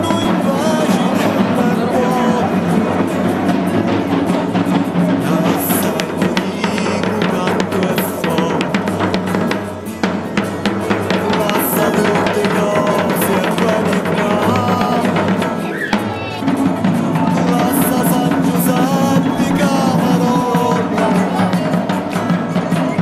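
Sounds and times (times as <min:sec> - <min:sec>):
drum beaten with sticks: 0:00.0 - 0:23.0.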